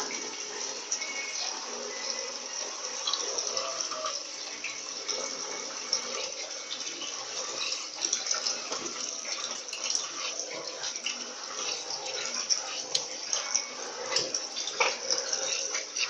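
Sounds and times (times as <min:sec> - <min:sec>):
washing machine spin cycle: 0:00.0 - 0:16.0.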